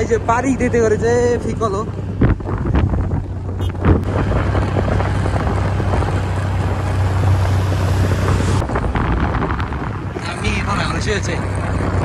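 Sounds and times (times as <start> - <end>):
vehicle low drone: 0.0 - 12.0
wind rushing over microphone: 0.0 - 12.0.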